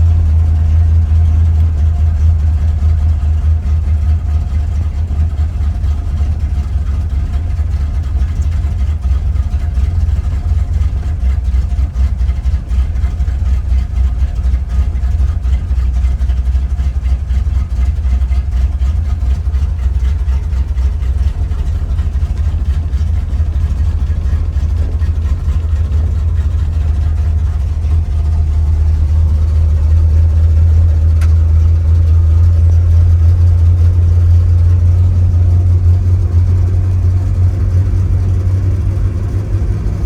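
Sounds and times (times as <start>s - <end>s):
car engine fast idle: 0.0s - 40.0s.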